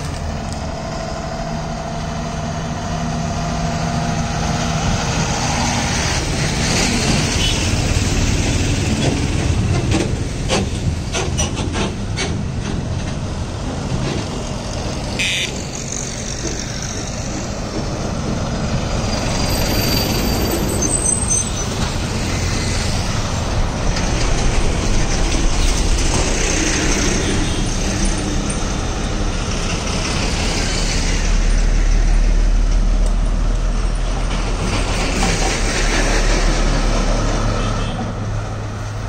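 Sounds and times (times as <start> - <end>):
bus driving past: 0.0 - 39.0
tyres rolling on asphalt: 0.0 - 39.0.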